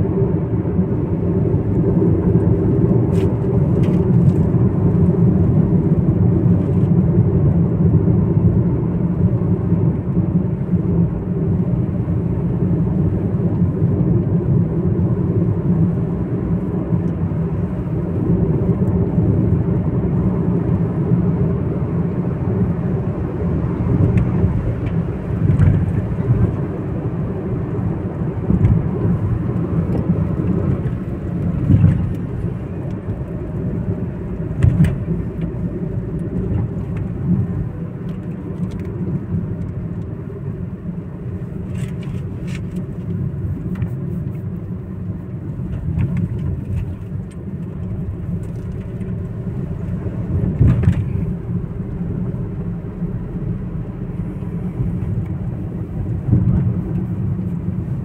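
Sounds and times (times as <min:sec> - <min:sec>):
road and engine rumble in car: 0:00.0 - 0:58.0.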